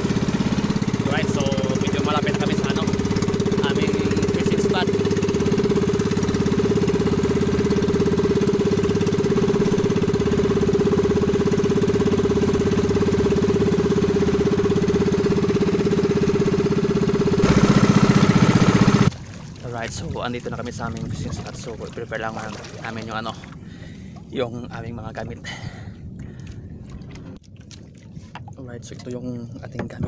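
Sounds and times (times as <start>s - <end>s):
small boat engine running: 0.0s - 30.0s.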